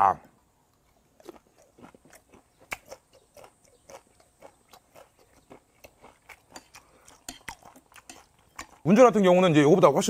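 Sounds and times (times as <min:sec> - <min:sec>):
wet mouth clicks chewing: 0:00.7 - 0:08.9.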